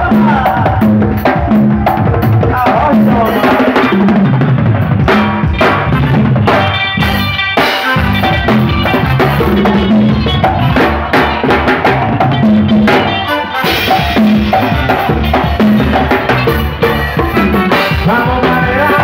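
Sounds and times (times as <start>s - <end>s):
conga hits: 0.0s - 19.0s
drum kit beat: 0.0s - 19.0s
live band music: 0.0s - 19.0s.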